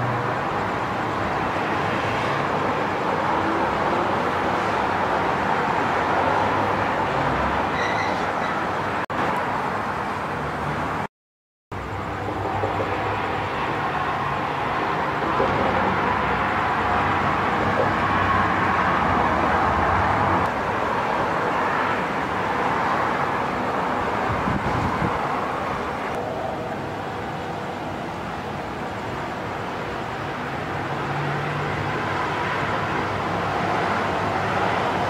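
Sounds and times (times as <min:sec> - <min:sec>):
freeway traffic rush: 0:00.0 - 0:11.1, 0:11.7 - 0:35.0.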